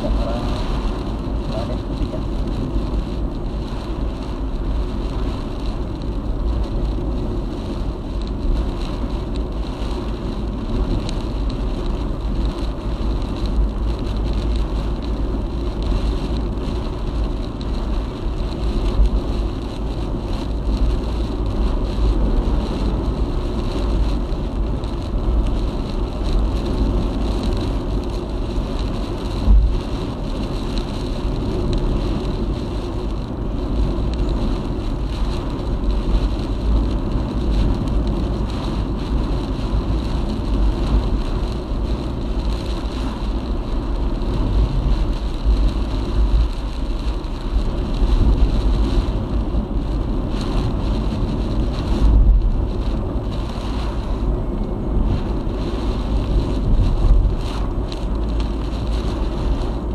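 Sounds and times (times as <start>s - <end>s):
car road rumble: 0.0s - 59.9s
rain: 0.0s - 59.9s
wind noise: 0.0s - 59.9s.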